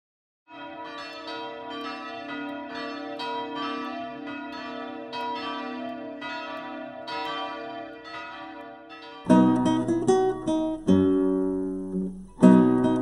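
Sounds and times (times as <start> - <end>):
bells ringing: 0.5 - 11.0.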